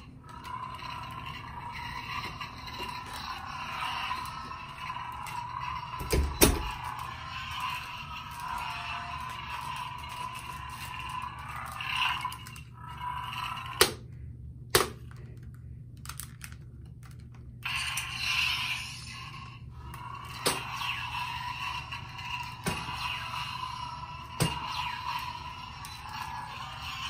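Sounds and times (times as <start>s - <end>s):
toy lightsaber electronic hum: 0.0s - 14.2s, 16.1s - 27.0s.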